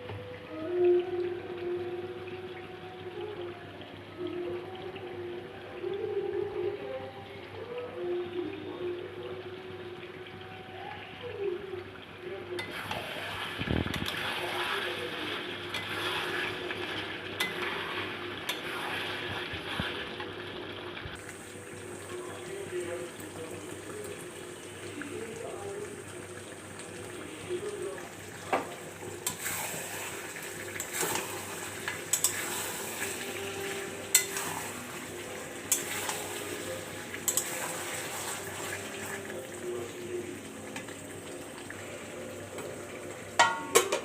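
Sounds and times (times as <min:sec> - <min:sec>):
food sizzling in a pan: 0:07.6 - 0:44.0.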